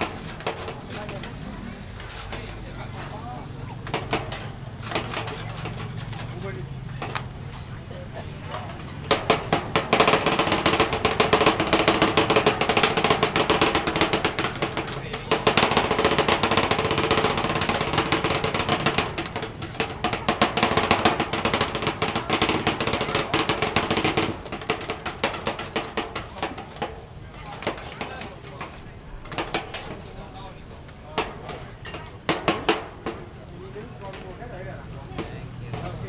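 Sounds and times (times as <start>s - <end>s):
blade chopping on a surface: 0.0s - 34.3s.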